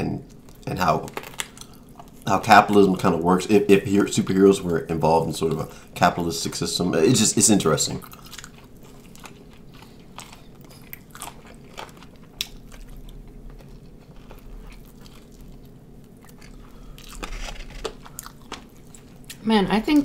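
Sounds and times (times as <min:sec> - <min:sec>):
chewing and crunching: 0:00.2 - 0:05.7, 0:07.9 - 0:20.0.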